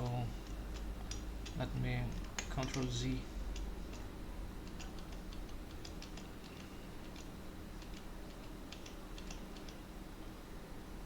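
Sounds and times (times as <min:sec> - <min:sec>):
low steady hum: 0:00.0 - 0:11.0
keyboard and mouse clicking: 0:00.4 - 0:09.8.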